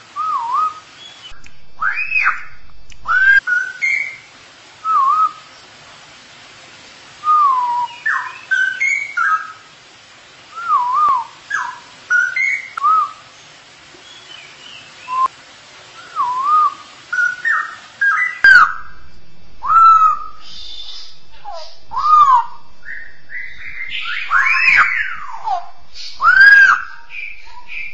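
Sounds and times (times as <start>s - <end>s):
bulbul singing whistled notes: 0.2s - 5.6s, 7.2s - 9.6s, 10.6s - 13.2s, 14.0s - 15.3s, 16.0s - 27.9s.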